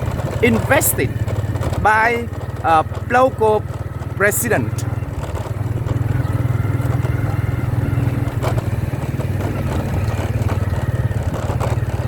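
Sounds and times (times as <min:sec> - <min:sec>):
faint engine knocks: 0:00.0 - 0:12.0
motorcycle engine running: 0:00.0 - 0:12.0.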